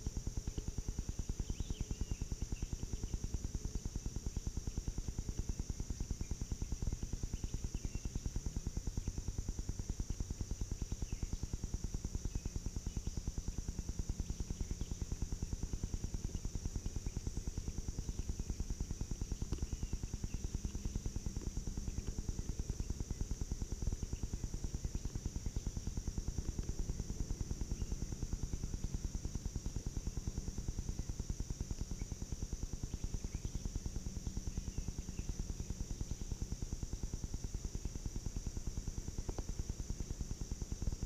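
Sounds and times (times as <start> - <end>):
fast low pulsing: 0.0 - 41.0
high-pitched insect chorus: 0.0 - 41.0.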